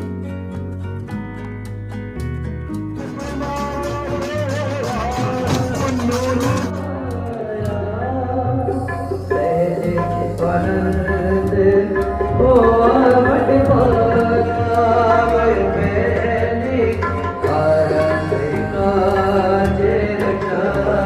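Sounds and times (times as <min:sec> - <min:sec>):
song with singing over drums: 0:03.0 - 0:21.0.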